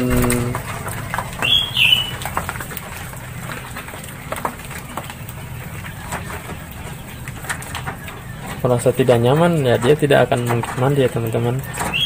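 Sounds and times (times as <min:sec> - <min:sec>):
bird chirping: 0:00.0 - 0:09.9, 0:11.2 - 0:12.0
low steady hum: 0:00.0 - 0:10.5
bird wings flapping: 0:00.0 - 0:10.8.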